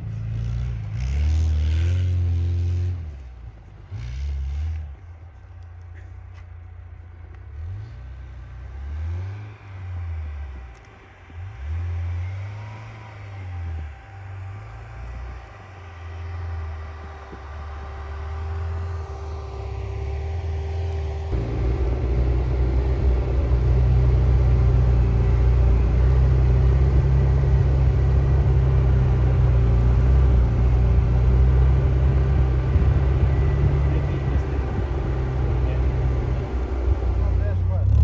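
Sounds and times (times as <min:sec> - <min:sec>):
car engine rumble: 0:00.0 - 0:38.0
tyres on snow: 0:00.0 - 0:38.0.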